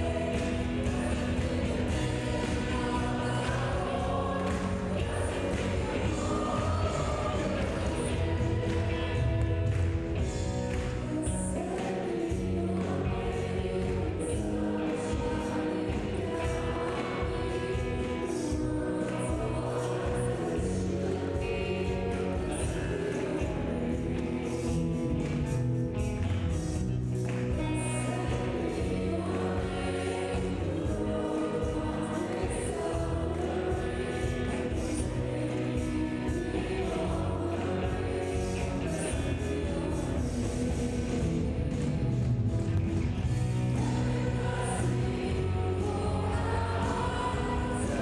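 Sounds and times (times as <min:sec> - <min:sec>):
people singing together: 0:00.0 - 0:26.1, 0:26.8 - 0:48.0
band playing worship song: 0:00.0 - 0:48.0.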